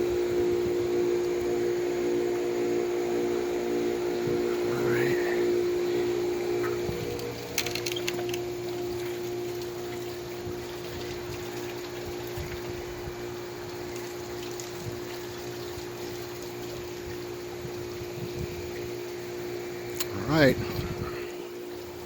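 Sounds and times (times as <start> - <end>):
pump humming: 0.0 - 22.0.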